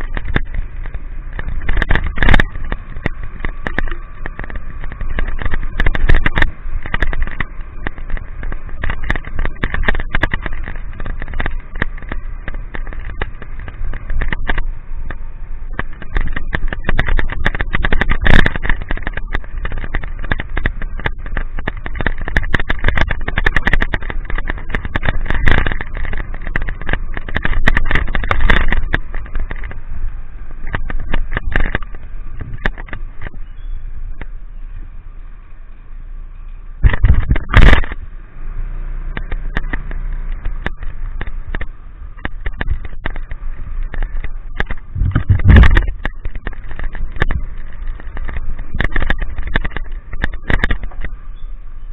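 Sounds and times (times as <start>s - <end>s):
motorcycle engine rumble: 0.0s - 51.9s
raindrops striking camera: 0.0s - 51.9s
wind on microphone: 0.0s - 51.9s.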